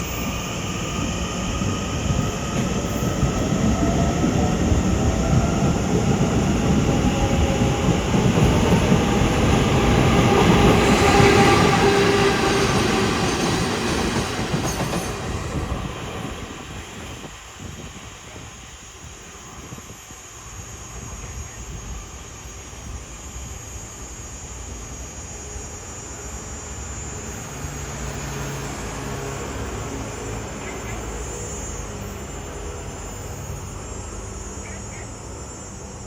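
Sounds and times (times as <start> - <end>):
electric locomotives rumbling past: 0.0 - 36.0.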